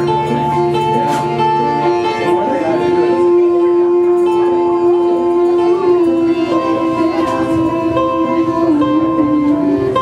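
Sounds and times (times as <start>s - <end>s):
accordion: 0.0s - 10.0s
plucked string instrument: 0.0s - 10.0s
upright bass: 0.0s - 10.0s.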